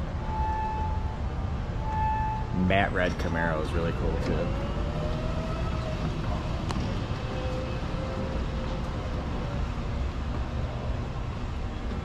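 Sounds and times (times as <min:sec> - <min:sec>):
faint drawn-out tone: 0:00.0 - 0:10.0
low rumble of hall background: 0:00.0 - 0:12.0.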